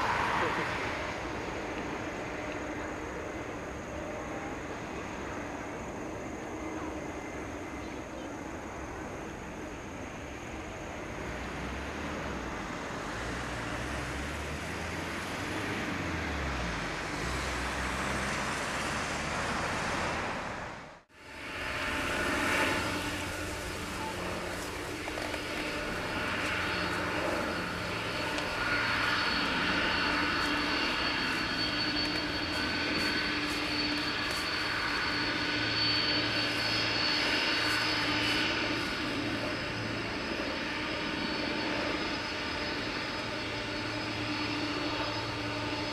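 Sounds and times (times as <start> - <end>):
jet engines whining and rumbling: 0.0 - 45.9.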